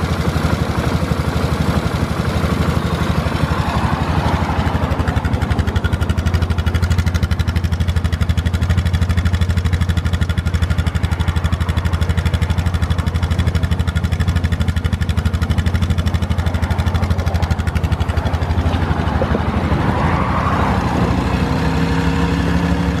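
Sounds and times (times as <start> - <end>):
engine idling: 0.0 - 20.4.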